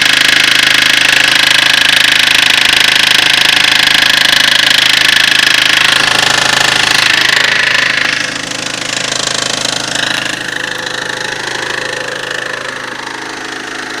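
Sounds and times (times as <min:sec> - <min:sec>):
engine running with rapid knock: 0:00.0 - 0:14.0.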